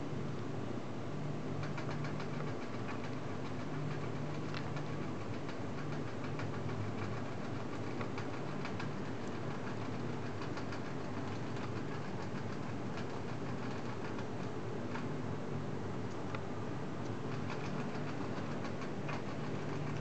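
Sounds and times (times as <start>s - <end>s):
steady low hum: 0.0s - 20.0s
rat gnawing a biscuit: 1.5s - 15.2s, 16.0s - 20.0s.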